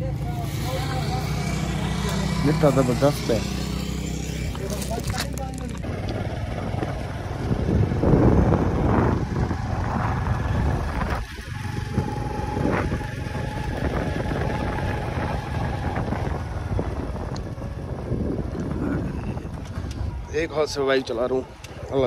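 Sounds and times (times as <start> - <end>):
motorcycle riding on road: 0.0 - 22.0.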